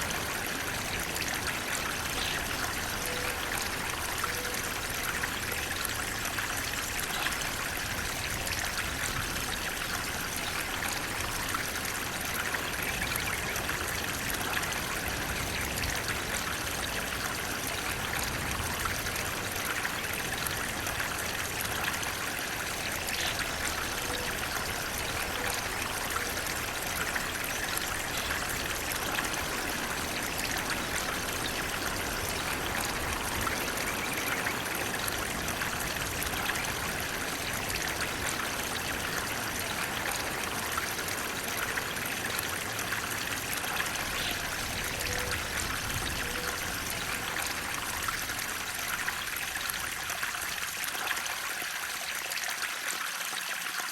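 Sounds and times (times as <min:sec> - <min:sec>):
flowing water: 0:00.0 - 0:53.9.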